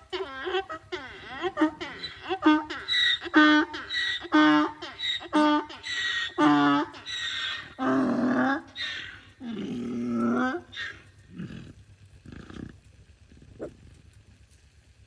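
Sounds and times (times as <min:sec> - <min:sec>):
donkey braying: 0:00.0 - 0:13.8.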